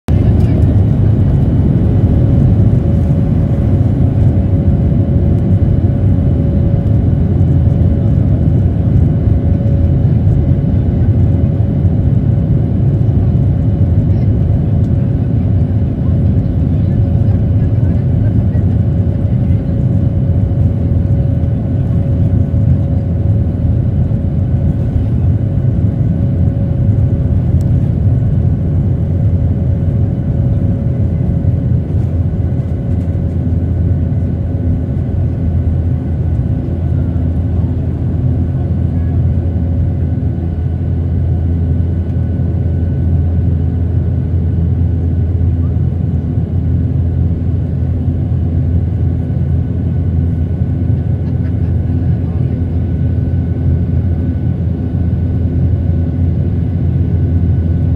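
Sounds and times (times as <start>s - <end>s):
jet engines low rumble: 0.0s - 57.9s
faint engine whine: 0.1s - 57.9s.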